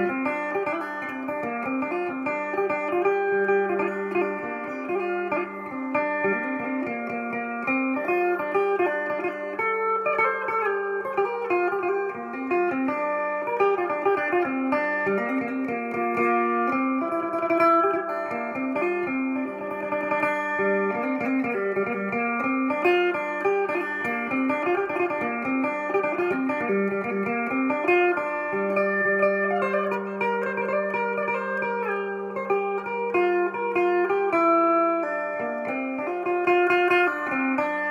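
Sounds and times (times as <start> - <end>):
plucked lute melody: 0.0 - 37.9.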